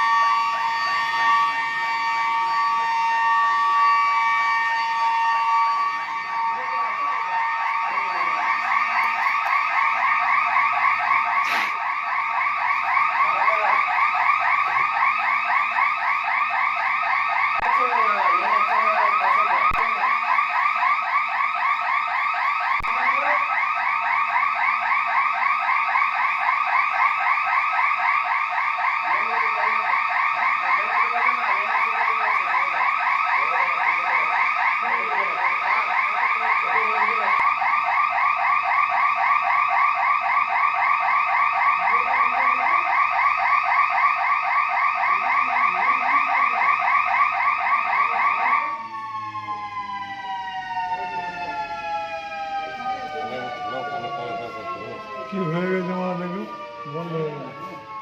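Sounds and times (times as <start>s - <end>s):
electronic alarm siren warbling: 0.0s - 58.0s.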